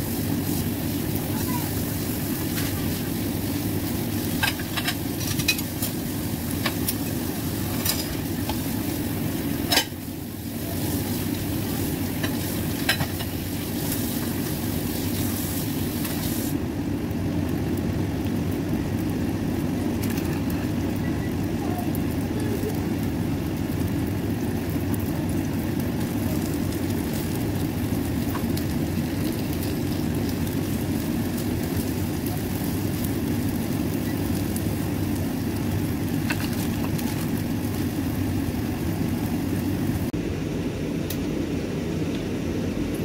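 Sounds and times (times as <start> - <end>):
food sizzling in oil: 0.0 - 40.1.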